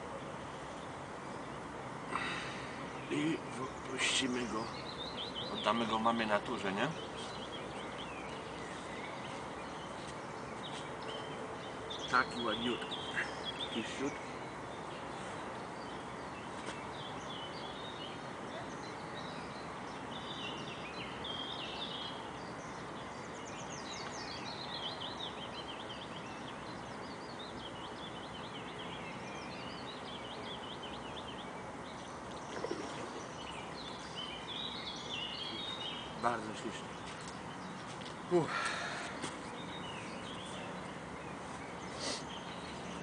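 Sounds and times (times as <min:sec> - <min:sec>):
outdoor background hiss: 0:00.0 - 0:43.0
songbirds chirping and trilling: 0:00.0 - 0:43.0.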